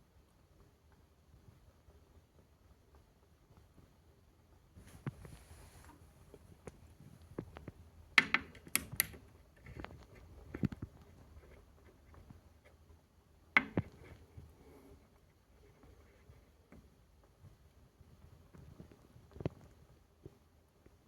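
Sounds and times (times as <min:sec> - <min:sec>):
fire crackling in fireplace: 0:00.0 - 0:20.5.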